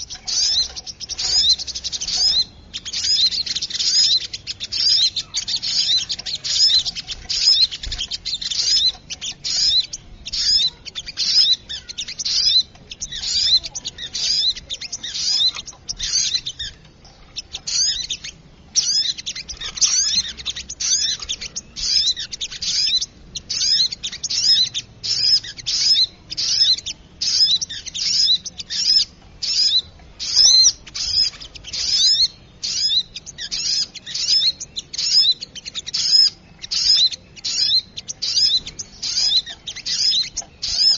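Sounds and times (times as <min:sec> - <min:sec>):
bird calling high-pitched notes: 0:00.0 - 0:40.9.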